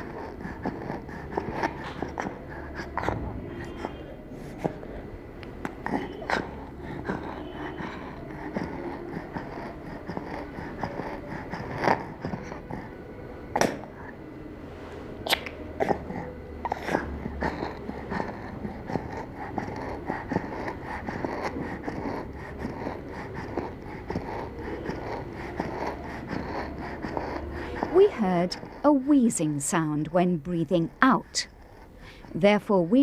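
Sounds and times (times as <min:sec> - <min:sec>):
child wheezing breaths: 0:00.0 - 0:14.3, 0:15.8 - 0:28.8.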